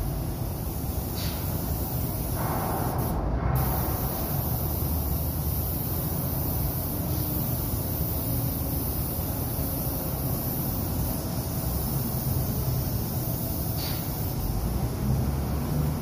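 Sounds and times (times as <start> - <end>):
spray gun hissing: 0.0 - 16.0
ventilation fans rumbling: 0.0 - 16.0.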